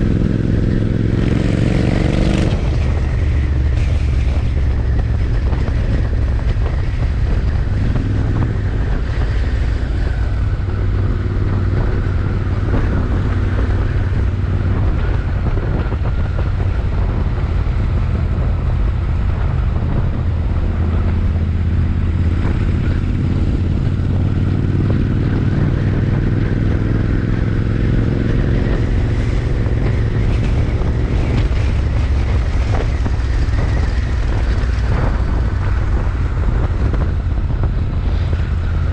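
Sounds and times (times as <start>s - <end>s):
motorcycle engine and exhaust: 0.0s - 38.9s
wind on microphone: 0.0s - 38.9s.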